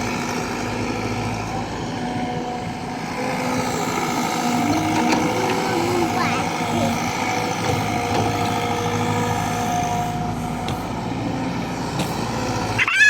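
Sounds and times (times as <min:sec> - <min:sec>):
excavator diesel engine rumbling: 0:00.0 - 0:13.0
steady engine tone: 0:00.0 - 0:13.0.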